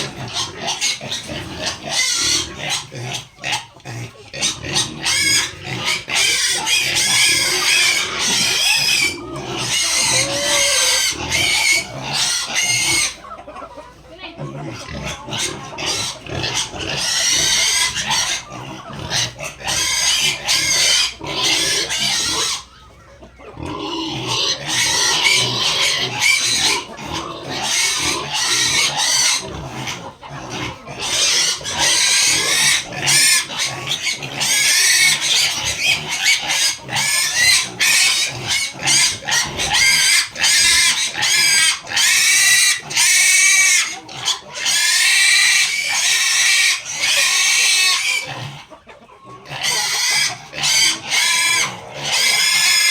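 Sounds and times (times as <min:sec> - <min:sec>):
farm animals crying high-pitched: 0:00.0 - 0:52.9.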